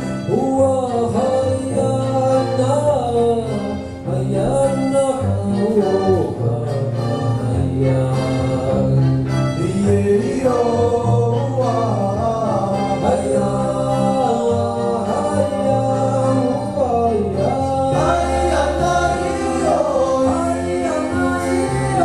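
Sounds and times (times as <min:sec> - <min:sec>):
instrumental backing with low bass: 0:00.0 - 0:22.0
person singing: 0:00.2 - 0:22.0.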